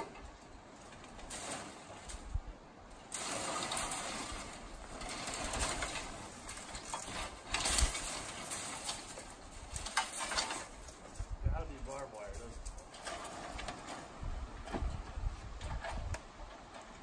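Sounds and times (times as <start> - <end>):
dry branches rustling and scraping: 0.0 - 17.0.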